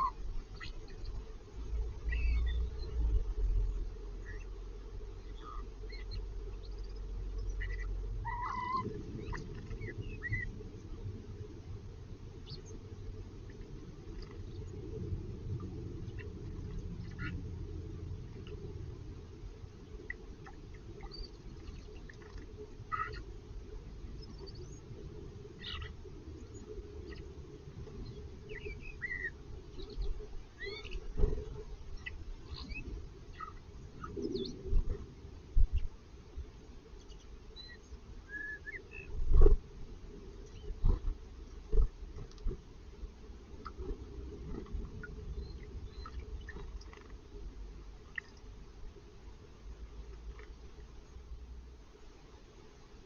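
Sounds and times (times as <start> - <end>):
small birds chirping: 0.0 - 51.3.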